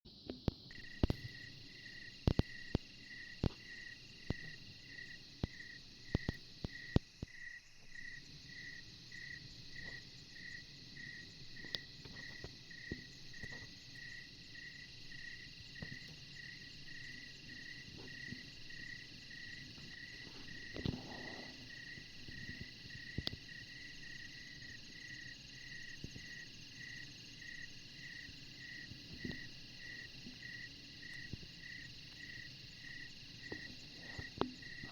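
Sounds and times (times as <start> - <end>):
insects chirping: 0.1 - 34.9.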